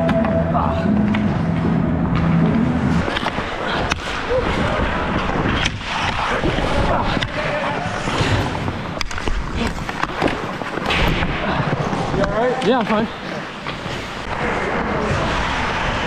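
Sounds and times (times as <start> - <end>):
skates scraping on ice: 1.0 - 16.0.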